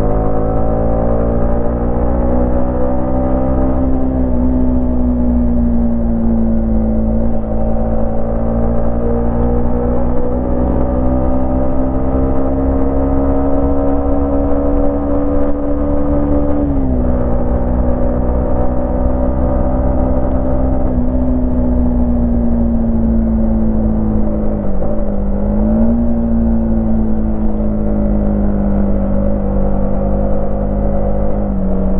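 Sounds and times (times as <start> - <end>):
low rumble: 0.0 - 31.9
motorcycle engine running: 0.0 - 31.9.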